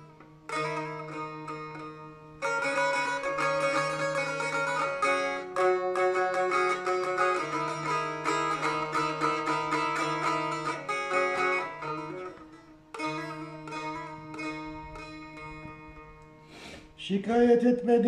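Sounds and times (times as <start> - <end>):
plucked long-necked lute melody: 0.0 - 16.6.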